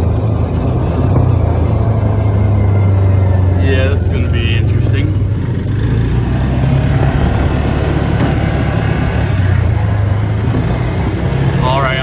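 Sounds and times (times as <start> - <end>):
road noise: 0.0 - 12.0
vehicle engine drone: 0.0 - 12.0.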